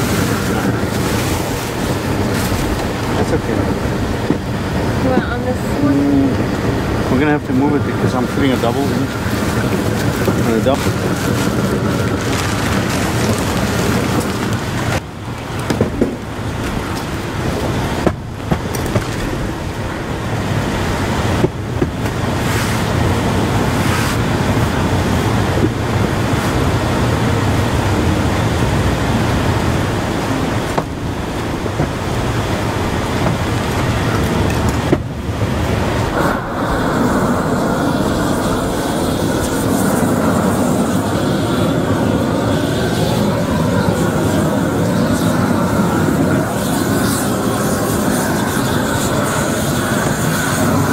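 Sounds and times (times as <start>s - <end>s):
roofing torch burning: 0.0s - 50.9s.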